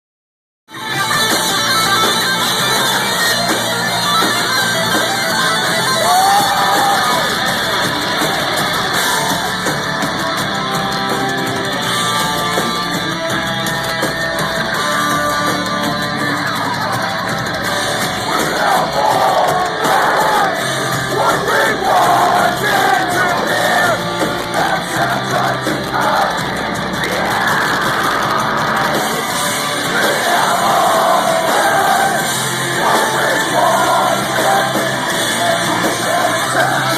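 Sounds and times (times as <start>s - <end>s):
crowd noise: 0.7s - 36.9s
live rock band playing: 0.7s - 36.9s.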